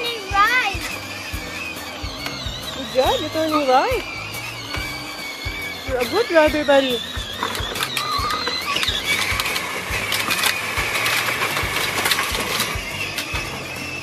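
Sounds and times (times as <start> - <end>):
electric motor whine: 0.0 - 14.0
plastic wheels clicking: 0.0 - 14.0.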